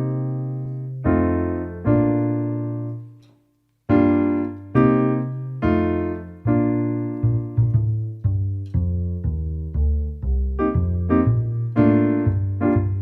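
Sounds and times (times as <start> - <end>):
keyboard piano chords over bass: 0.0 - 3.3, 3.9 - 13.0.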